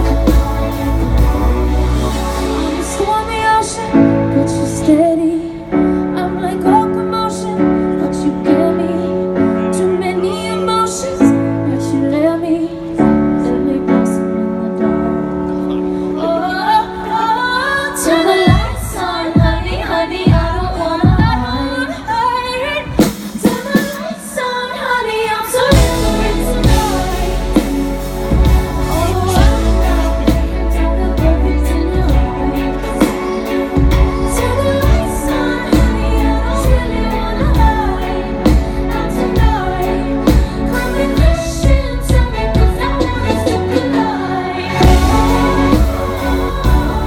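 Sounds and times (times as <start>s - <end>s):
woman singing: 0.0s - 47.0s.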